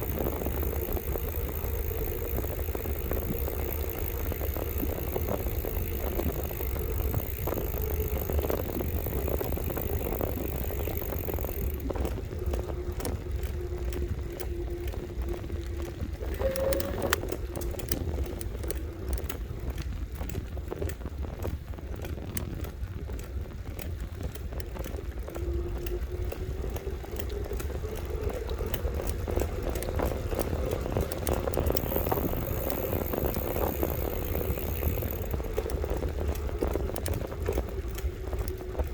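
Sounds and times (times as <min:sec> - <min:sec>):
electric bike motor whining: 0:00.0 - 0:20.6, 0:24.0 - 0:38.9
small rattles and clicks: 0:00.0 - 0:38.9
wind rumble on microphone: 0:00.0 - 0:38.9.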